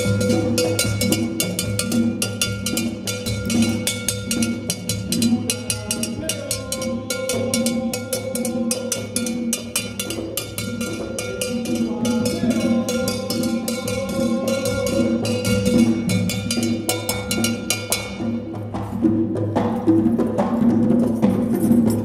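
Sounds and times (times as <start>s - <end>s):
drums: 0.0s - 22.0s.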